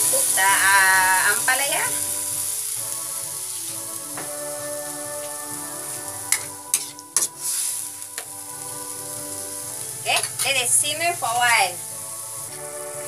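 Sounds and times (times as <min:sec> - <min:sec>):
background music: 0:00.0 - 0:13.0
vegetables sizzling in a wok: 0:00.0 - 0:13.0.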